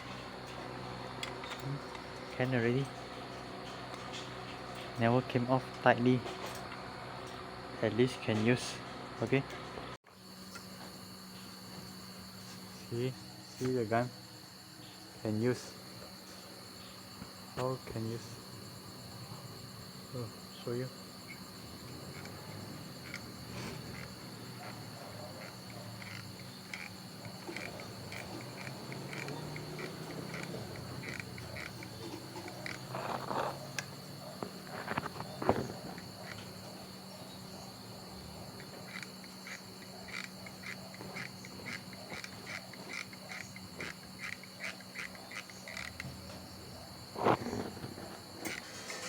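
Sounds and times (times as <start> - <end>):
crickets trilling: 0.0 - 49.0
insects chirping: 0.0 - 49.0.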